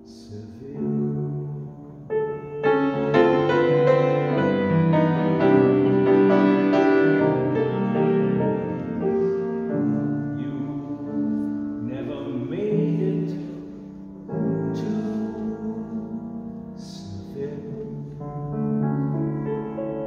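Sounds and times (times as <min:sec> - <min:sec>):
grand piano jazzy chords: 0:00.0 - 0:20.0.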